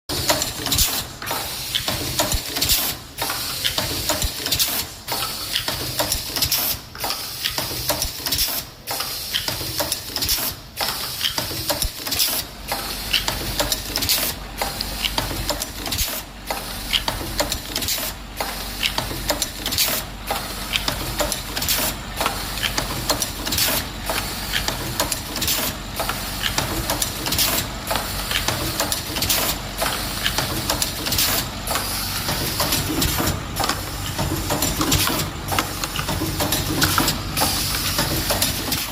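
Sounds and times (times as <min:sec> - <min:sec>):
machine mechanical clatter: 0:00.1 - 0:38.9.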